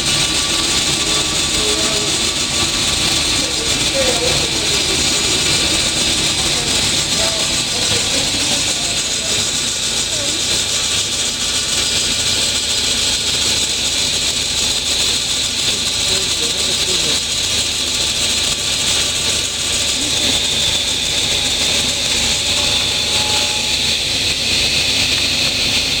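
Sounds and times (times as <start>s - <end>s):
table saw running: 0.0s - 26.0s.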